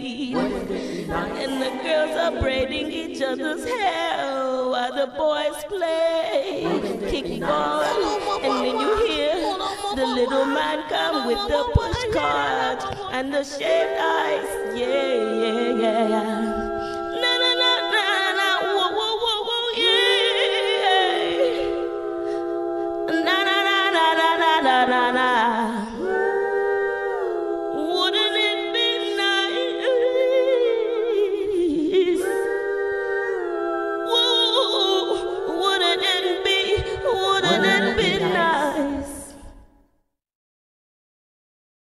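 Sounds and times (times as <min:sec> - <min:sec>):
women singing a cappella harmonies: 0:00.0 - 0:39.8.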